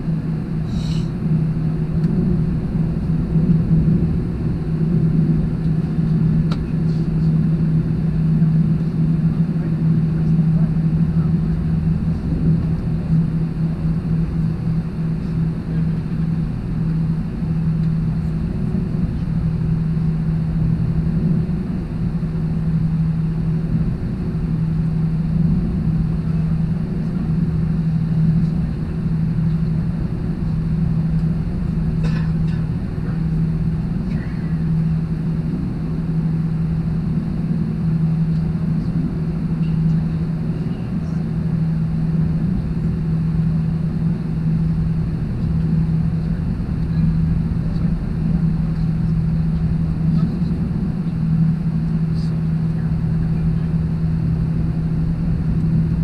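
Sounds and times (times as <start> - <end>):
jet engines heard in cabin: 0.0 - 56.0.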